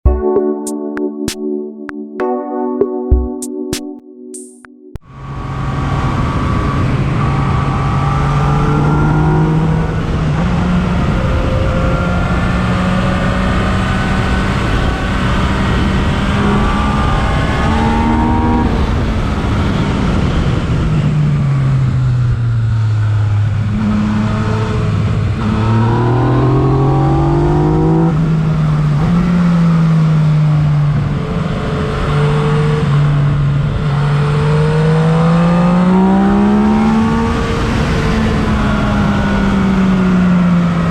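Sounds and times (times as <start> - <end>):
motorcycle engine revving: 5.1 - 40.9.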